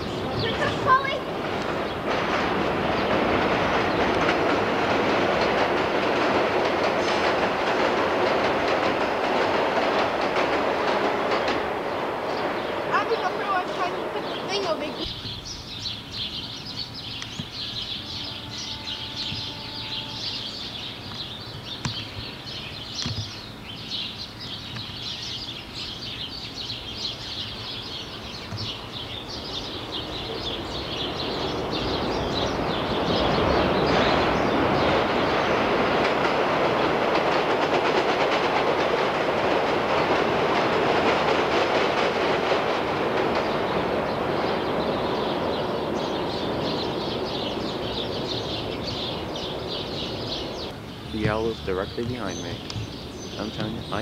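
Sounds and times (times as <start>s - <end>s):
train passing on elevated steel track: 0.0s - 54.0s.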